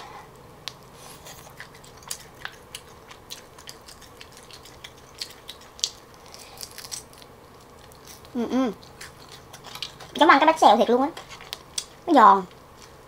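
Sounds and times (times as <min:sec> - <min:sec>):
crunching and chewing: 0:00.3 - 0:13.0.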